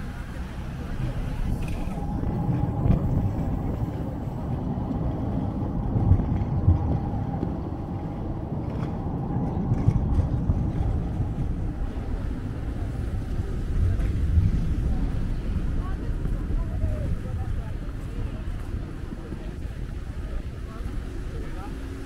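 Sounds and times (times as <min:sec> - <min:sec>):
tram rumbling past: 0:00.0 - 0:22.0.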